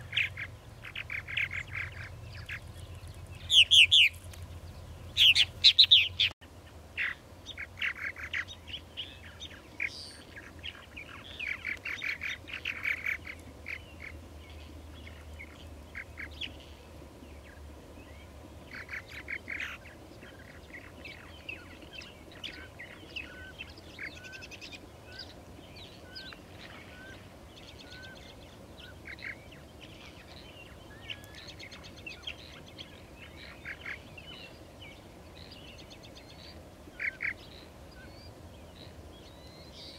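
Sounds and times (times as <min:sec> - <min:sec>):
birds chirping and croaking: 0:00.0 - 0:39.9.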